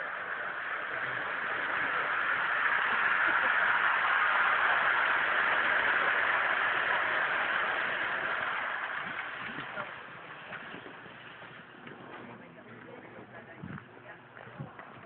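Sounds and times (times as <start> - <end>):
model train rolling on track: 0.0 - 15.0.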